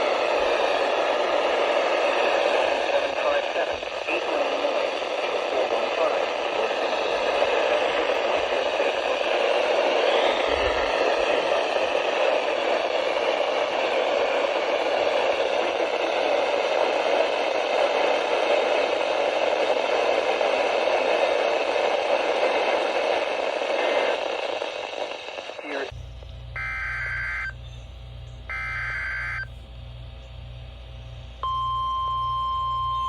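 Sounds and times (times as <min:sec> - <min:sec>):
radio static hiss: 0:00.0 - 0:27.6, 0:28.5 - 0:29.8
faint steady tones: 0:00.0 - 0:33.0.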